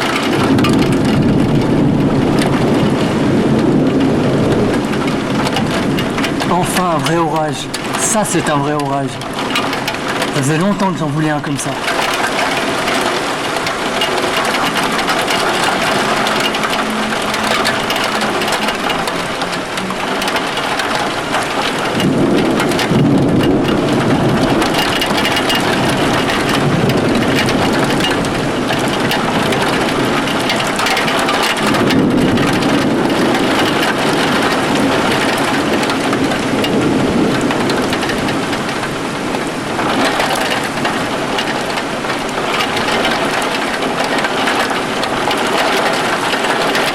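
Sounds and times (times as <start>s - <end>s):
thunder rolling: 0.0s - 10.4s, 11.0s - 46.9s
heavy rain pouring: 0.0s - 46.9s.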